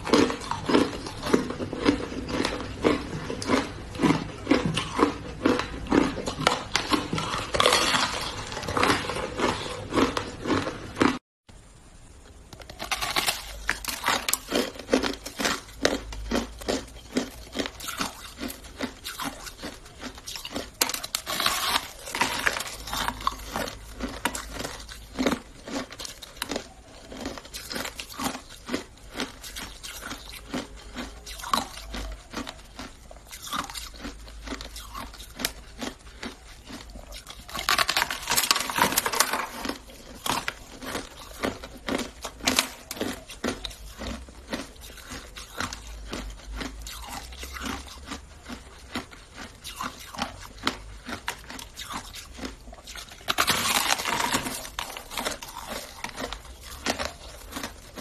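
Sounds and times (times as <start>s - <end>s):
person chewing crunchy ice: 0.0s - 11.2s, 12.3s - 58.0s.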